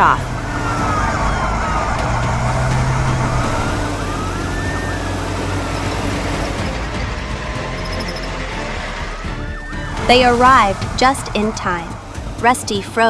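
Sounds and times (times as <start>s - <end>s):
emergency vehicle siren wailing: 0.0s - 13.0s
rumble of vehicles driving: 0.0s - 13.0s.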